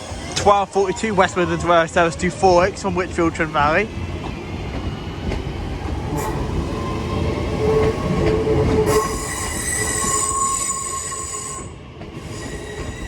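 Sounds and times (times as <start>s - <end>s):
electric train whining: 0.0s - 13.0s
train heavy rumble: 0.0s - 13.0s.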